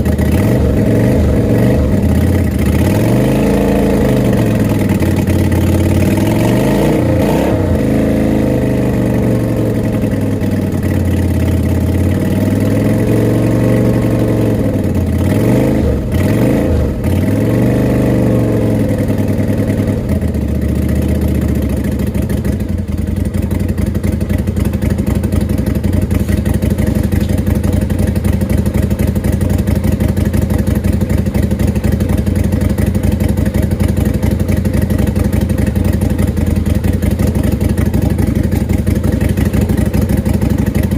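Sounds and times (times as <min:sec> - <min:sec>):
motorcycle engine idling: 0:00.0 - 0:40.9
motorcycle engine revving: 0:00.0 - 0:40.9.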